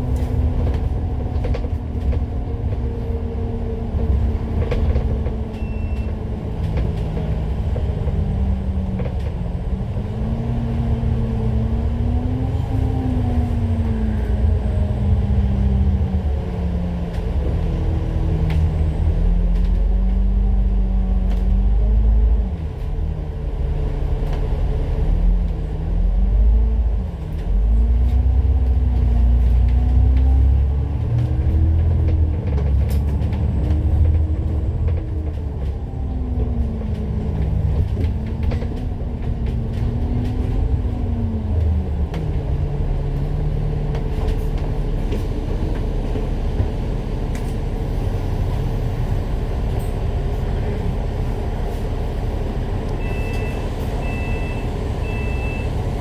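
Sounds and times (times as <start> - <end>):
bus diesel engine accelerating: 0.0 - 56.0.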